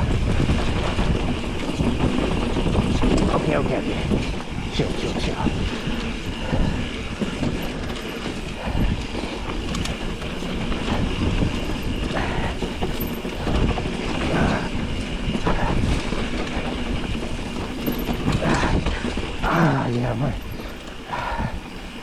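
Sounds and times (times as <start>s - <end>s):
bike rattling and knocking: 0.0s - 22.0s
tyres on dirt and gravel: 0.0s - 22.0s.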